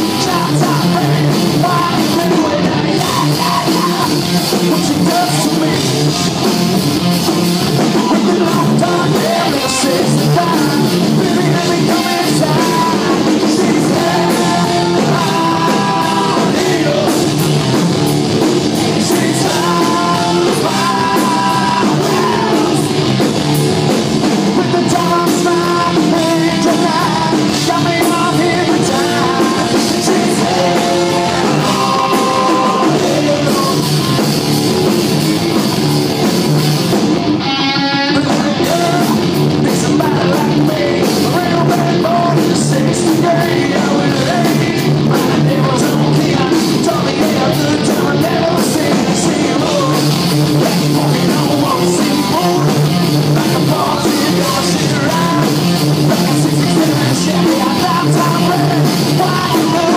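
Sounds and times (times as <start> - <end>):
lead singer singing: 0.0 - 6.7, 7.6 - 34.9, 37.4 - 59.9
drums: 0.0 - 59.9
guitars: 0.0 - 59.9.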